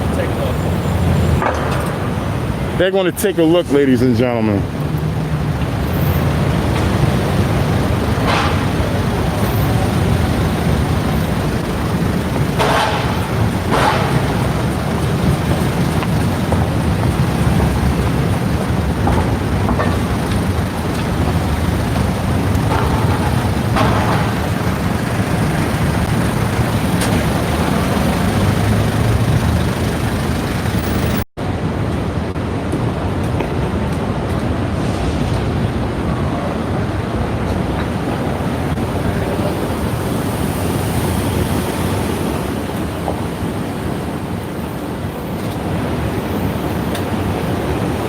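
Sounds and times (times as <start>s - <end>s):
vehicles hissing past: 0.0s - 31.3s, 34.7s - 48.0s
street traffic rumble: 0.0s - 48.0s.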